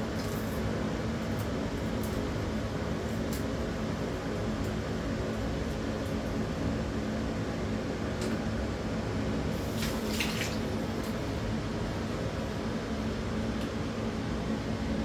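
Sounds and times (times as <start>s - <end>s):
range hood fan whirring: 0.0s - 15.0s.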